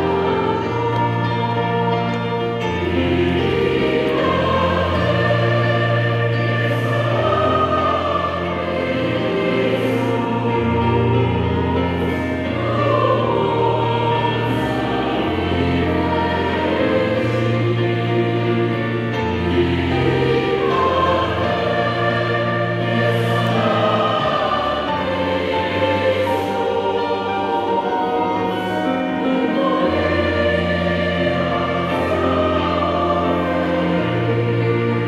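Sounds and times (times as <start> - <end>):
choir singing a hymn: 0.0 - 35.0.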